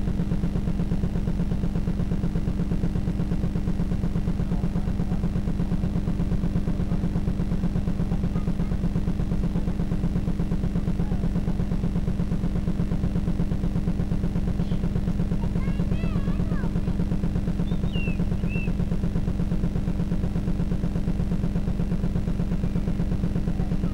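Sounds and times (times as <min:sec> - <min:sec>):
pulsing mechanical hum: 0:00.0 - 0:23.9.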